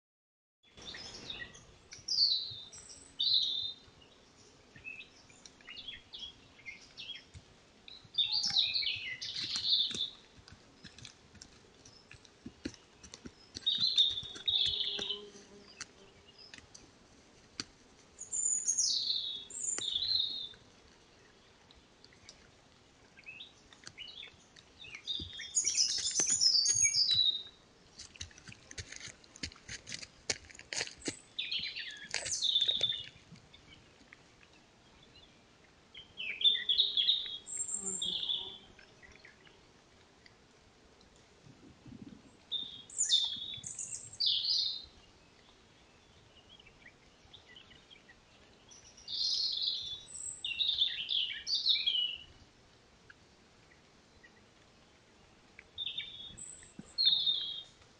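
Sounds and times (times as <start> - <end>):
songbirds chirping: 0.6 - 57.9.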